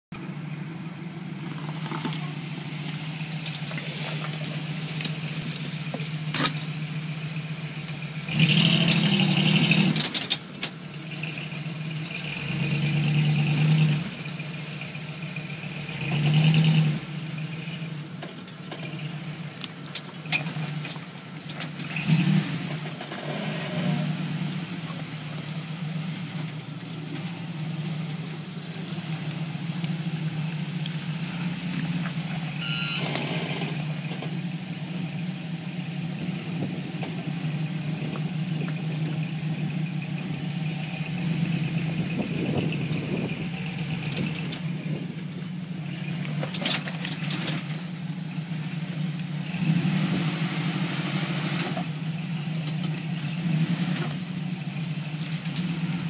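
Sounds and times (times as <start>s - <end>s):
engine revving in surges: 0.1s - 18.0s, 21.6s - 45.2s, 45.8s - 56.0s.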